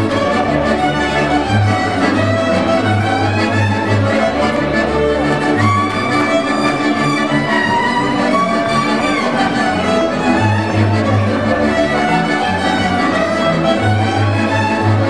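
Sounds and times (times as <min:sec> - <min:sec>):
double bass pulsing: 0:00.0 - 0:15.0
fiddles playing melody: 0:00.0 - 0:15.0
string chord accompaniment: 0:00.0 - 0:15.0.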